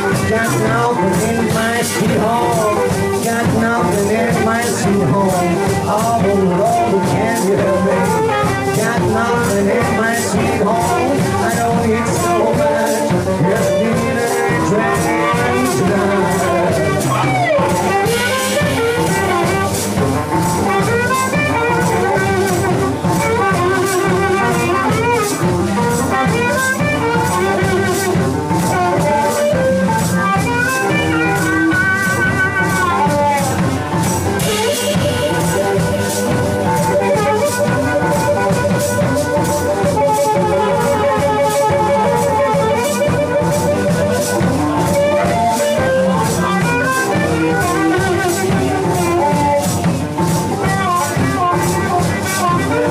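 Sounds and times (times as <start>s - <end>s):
blues harmonica wailing: 0.0s - 52.9s
drum kit beat: 0.0s - 52.9s
electric guitar: 0.0s - 52.9s.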